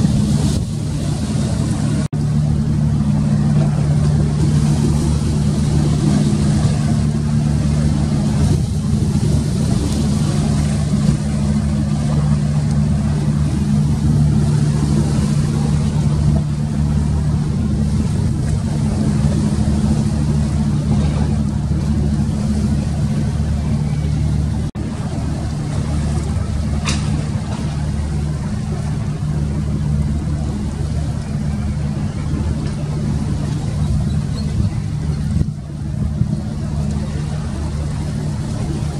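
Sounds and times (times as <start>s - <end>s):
engine droning steadily: 0.0s - 38.9s.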